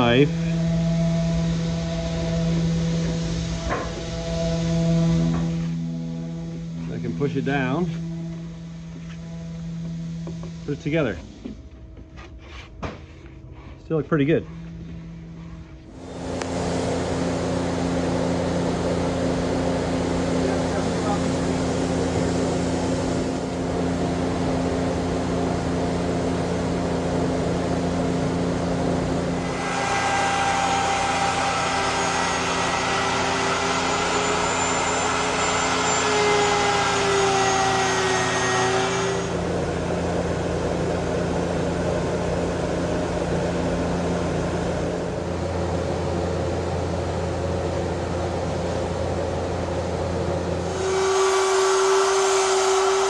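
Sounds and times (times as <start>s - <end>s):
router whine cutting wood: 0.0s - 12.1s, 13.9s - 48.4s, 49.5s - 53.0s
steady machine hum: 0.0s - 53.0s.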